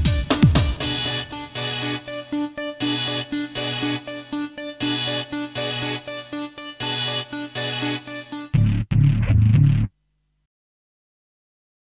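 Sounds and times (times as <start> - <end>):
music of short repeated notes: 0.0 - 9.9.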